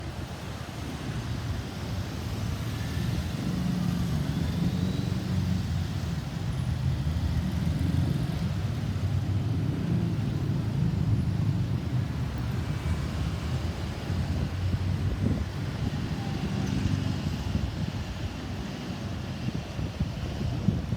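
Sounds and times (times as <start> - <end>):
road noise: 0.0 - 20.9
traffic engine rumble: 0.0 - 20.9.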